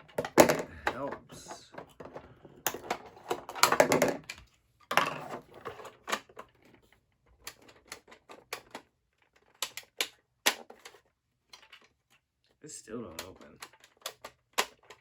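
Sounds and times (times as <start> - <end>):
puzzle box clicking and clattering: 0.0 - 12.2, 13.0 - 15.0.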